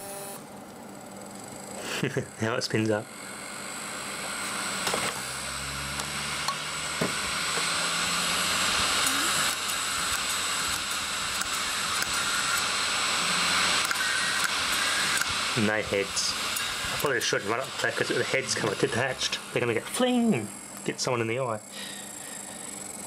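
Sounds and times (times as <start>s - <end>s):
hard drive platters whirring: 0.0s - 23.0s.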